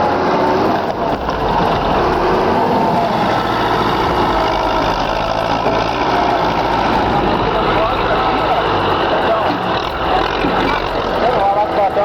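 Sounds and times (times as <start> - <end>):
tractor engines running hard: 0.0 - 12.0.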